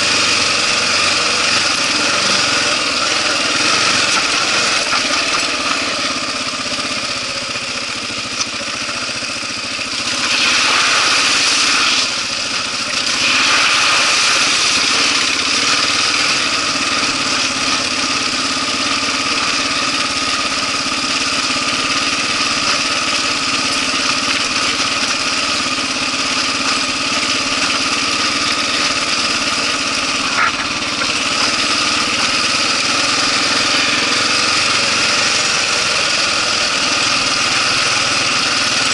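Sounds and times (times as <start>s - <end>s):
motorcycle engine riding on gravel: 0.0s - 38.9s.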